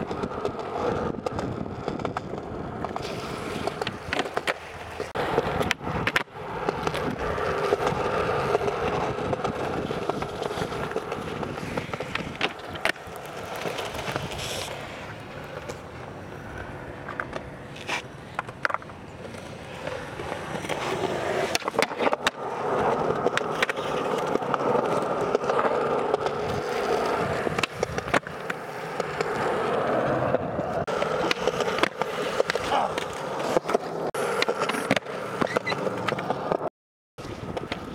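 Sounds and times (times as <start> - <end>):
skateboard clacks: 0.0 - 37.9
skateboard wheels rolling on pavement: 0.0 - 37.9.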